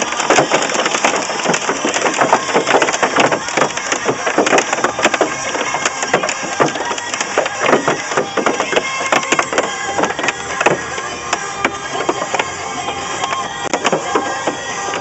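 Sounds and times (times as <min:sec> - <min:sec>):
hail pelting car roof: 0:00.0 - 0:15.0.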